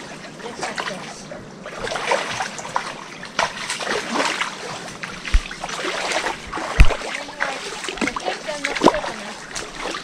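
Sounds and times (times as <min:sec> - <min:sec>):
footsteps wading through water: 0:01.7 - 0:10.0.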